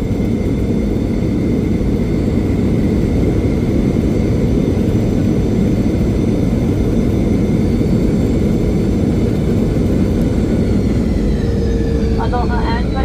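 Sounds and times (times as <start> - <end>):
faint high engine whine: 0.0 - 13.0
jet engine cabin rumble: 0.0 - 13.0.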